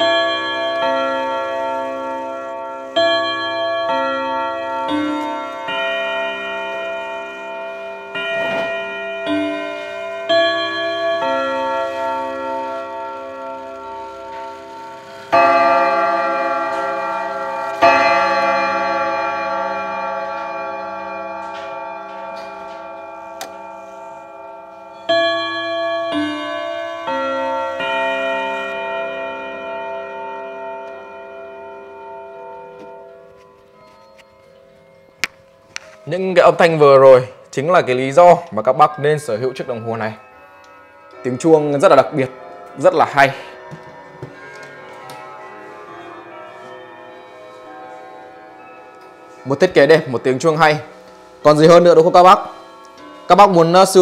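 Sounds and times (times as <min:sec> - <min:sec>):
loud ringing clock strikes: 0:00.0 - 0:54.0
wall clock chime notes: 0:00.0 - 0:54.0.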